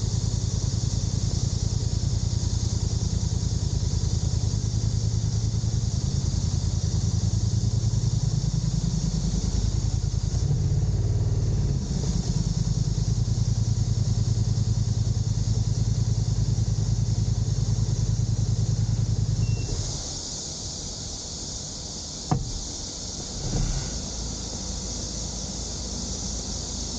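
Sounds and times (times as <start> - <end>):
engine running: 0.0 - 26.9
high-pitched hiss: 0.0 - 26.9.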